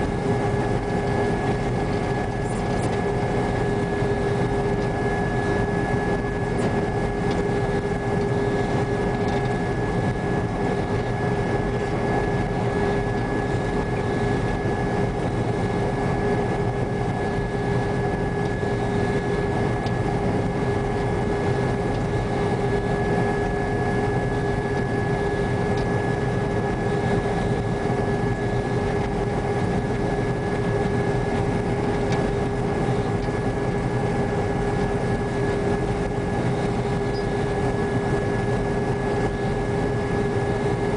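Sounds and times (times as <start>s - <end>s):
combine engine and machinery drone: 0.0s - 40.9s
steady high whine: 0.0s - 40.9s.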